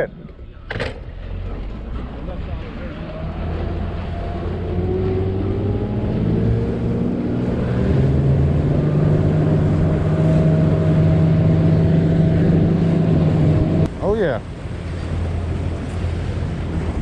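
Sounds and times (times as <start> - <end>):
boat outboard motor running: 1.0 - 17.0.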